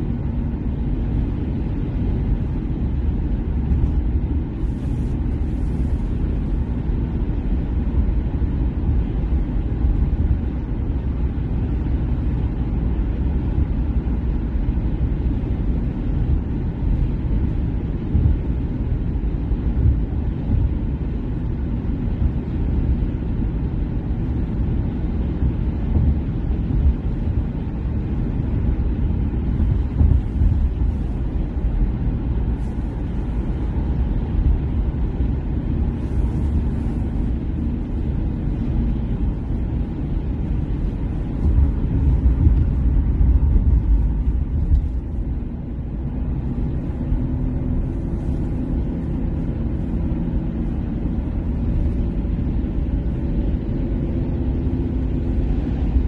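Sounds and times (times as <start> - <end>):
car cabin road noise: 0.0 - 56.0.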